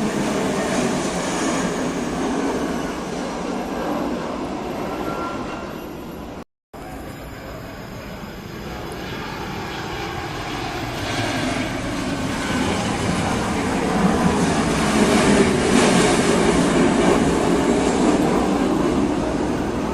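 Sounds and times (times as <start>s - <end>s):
jet engines roaring: 0.0s - 19.9s.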